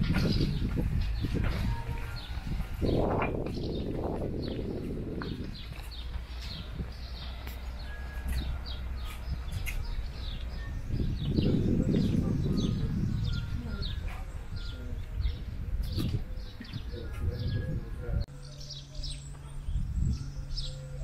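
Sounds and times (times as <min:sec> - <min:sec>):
background street noise: 0:00.0 - 0:21.0
small birds chirping: 0:00.0 - 0:21.0.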